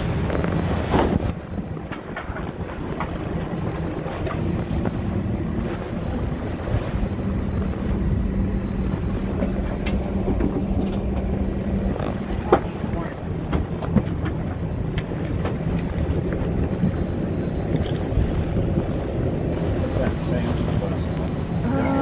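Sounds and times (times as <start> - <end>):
airliner cabin rumble: 0.0 - 22.0
steady hum: 0.0 - 22.0.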